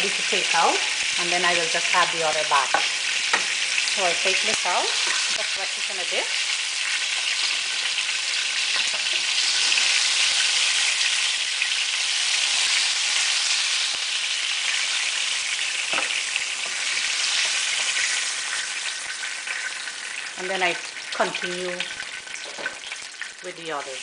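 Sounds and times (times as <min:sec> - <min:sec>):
oil sizzling in a frying pan: 0:00.0 - 0:24.0.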